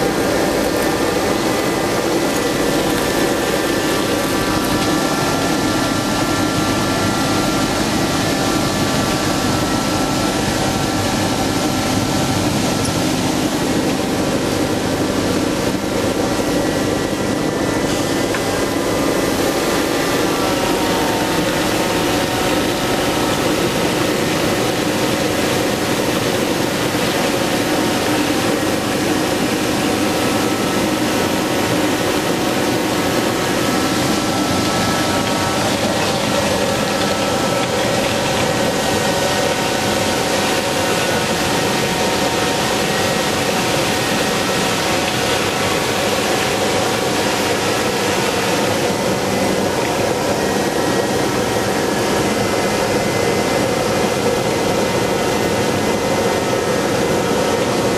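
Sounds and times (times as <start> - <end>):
ice edger shaving ice: 0.0 - 57.9.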